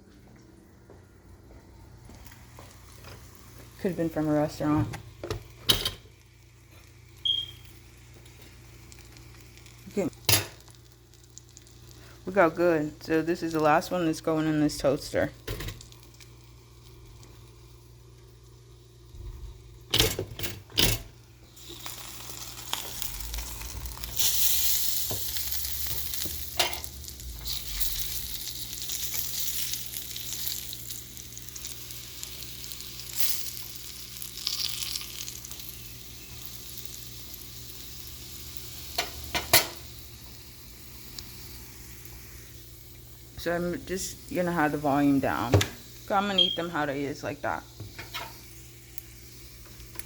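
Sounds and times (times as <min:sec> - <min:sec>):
food sizzling in frying pan: 0:02.0 - 0:50.0.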